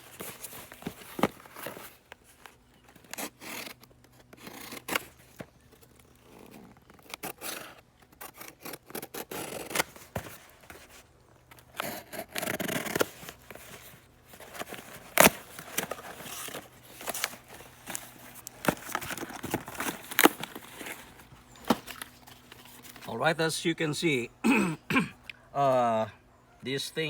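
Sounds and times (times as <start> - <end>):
tape and packaging tearing: 0.0 - 23.1.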